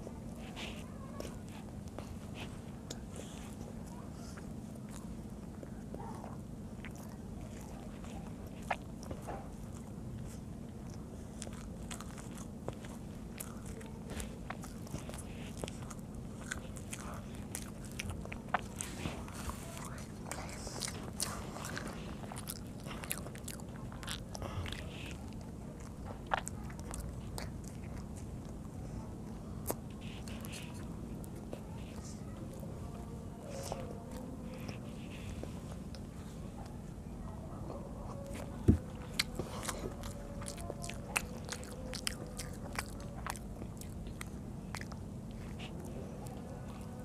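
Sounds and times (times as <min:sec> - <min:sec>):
person chewing food: 0:00.0 - 0:47.0
steady low hum: 0:00.0 - 0:47.0.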